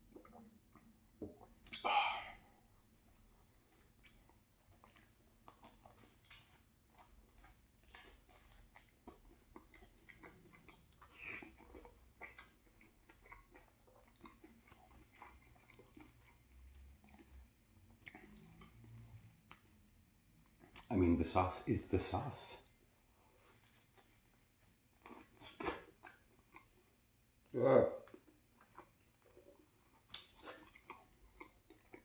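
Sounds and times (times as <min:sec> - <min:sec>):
chewing and biting sandwich: 0:00.0 - 0:20.9, 0:22.6 - 0:32.0.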